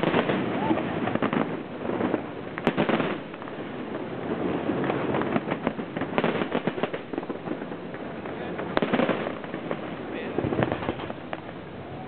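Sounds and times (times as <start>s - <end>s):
fireworks bangs: 0.0s - 12.0s
fireworks crackling and popping: 0.0s - 12.0s.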